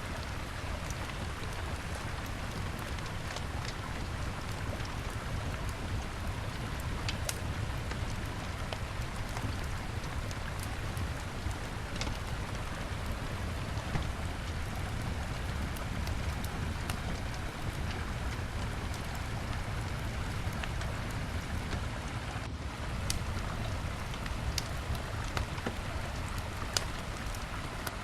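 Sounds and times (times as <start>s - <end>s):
wood fire crackling and popping: 0.0s - 21.9s, 22.8s - 28.0s.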